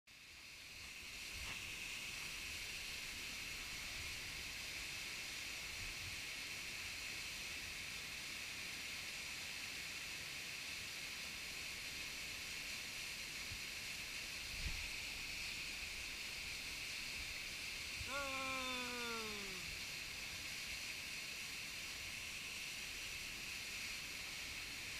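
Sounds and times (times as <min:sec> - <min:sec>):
waterfall rushing into pool: 0:00.4 - 0:24.9.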